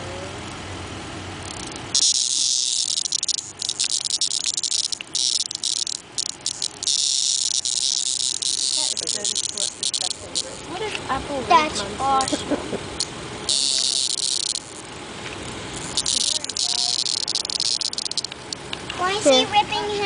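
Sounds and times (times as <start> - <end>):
cicada raspy distress buzz: 1.4 - 11.0, 12.1 - 19.4.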